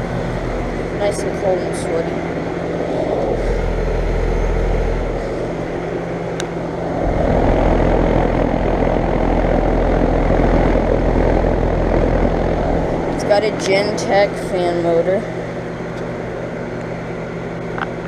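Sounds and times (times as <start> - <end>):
air conditioner fan whoosh: 0.0 - 18.0
compressor hum: 0.0 - 18.0.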